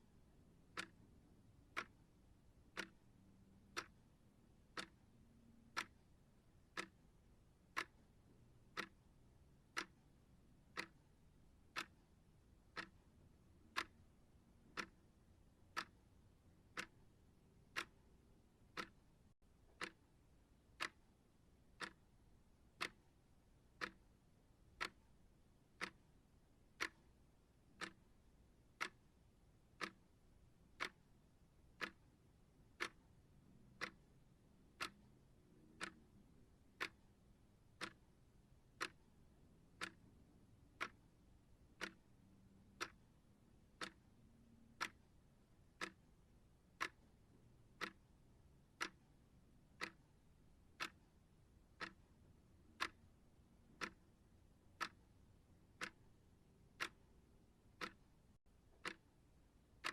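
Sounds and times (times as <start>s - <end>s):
clock ticking: 0.1s - 59.9s.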